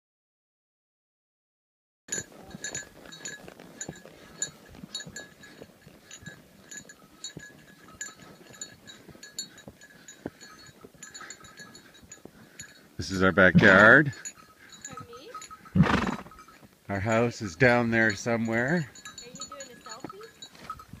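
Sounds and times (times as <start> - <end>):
horse tack bells jingling: 2.1 - 21.0.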